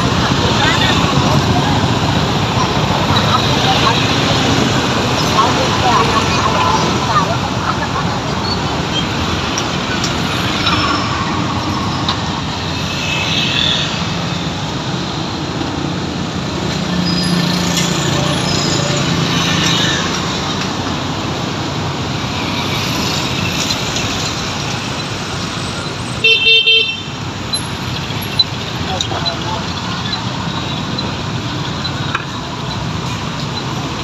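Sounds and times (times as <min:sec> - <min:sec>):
indistinct voices: 0:00.0 - 0:26.0, 0:28.0 - 0:34.0
passing vehicles traffic: 0:00.0 - 0:34.0.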